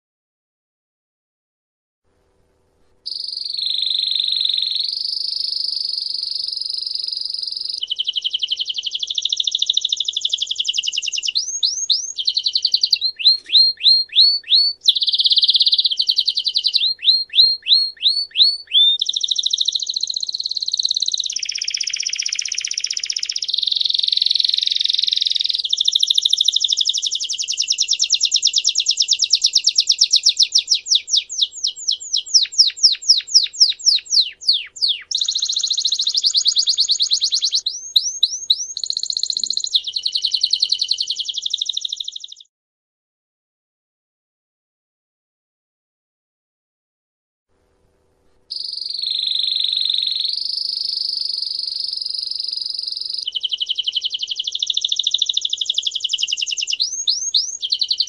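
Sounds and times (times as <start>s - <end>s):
canary singing trills: 3.1s - 42.5s, 48.5s - 58.0s.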